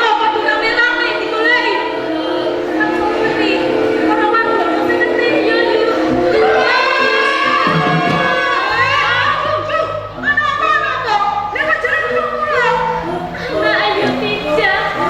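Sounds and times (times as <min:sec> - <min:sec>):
held low instrumental notes: 0:00.0 - 0:15.0
voices singing sliding pitch: 0:00.0 - 0:15.0.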